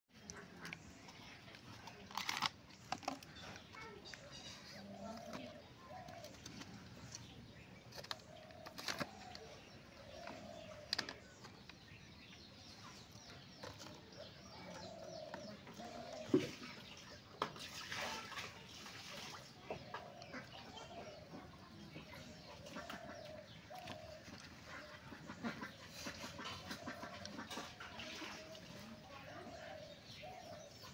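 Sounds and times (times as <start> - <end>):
bird calling: 3.0 - 16.8, 19.6 - 30.9.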